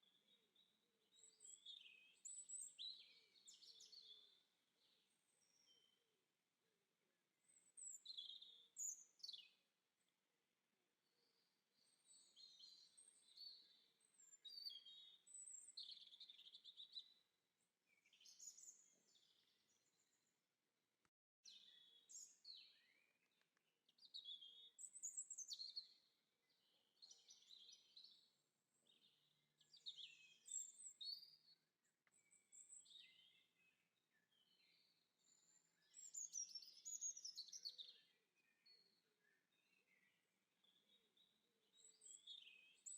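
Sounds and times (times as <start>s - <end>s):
faint birdsong chirps: 0.0s - 20.6s, 21.4s - 42.9s.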